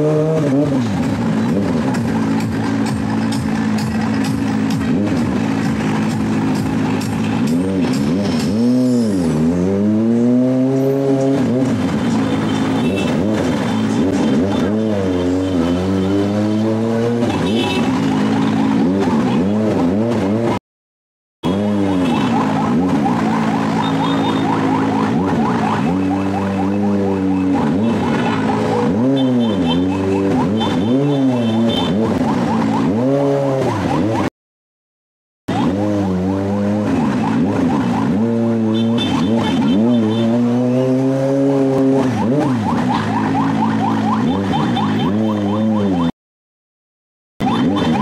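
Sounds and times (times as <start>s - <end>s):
motorcycle engine revving: 0.0s - 20.6s, 21.4s - 34.3s, 35.5s - 46.1s, 47.4s - 48.0s.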